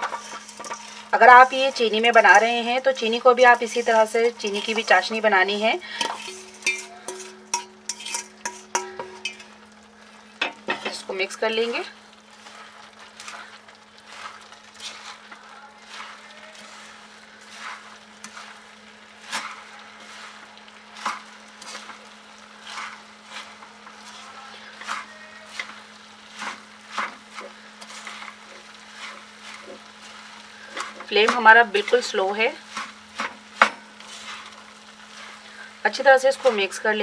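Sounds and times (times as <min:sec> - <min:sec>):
utensil scraping a pan: 0:00.0 - 0:09.6, 0:10.4 - 0:37.0.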